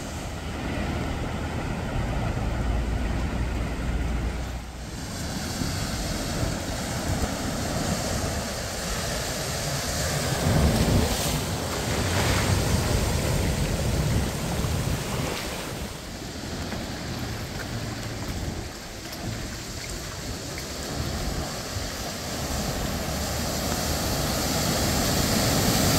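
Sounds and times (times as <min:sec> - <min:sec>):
truck splashing through floodwater: 0:00.0 - 0:25.9.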